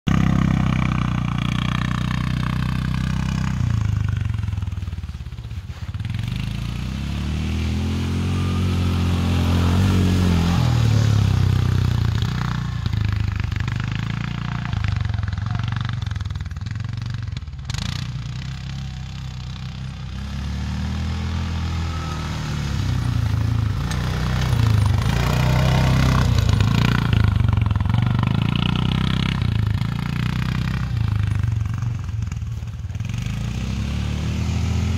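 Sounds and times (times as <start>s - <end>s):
quad bike engine revving: 0.0s - 5.0s, 5.7s - 34.9s.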